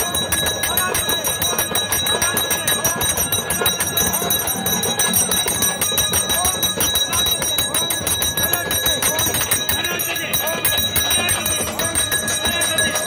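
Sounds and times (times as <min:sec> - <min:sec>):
crowd voices: 0:00.0 - 0:13.0
temple bells ringing: 0:00.0 - 0:13.0.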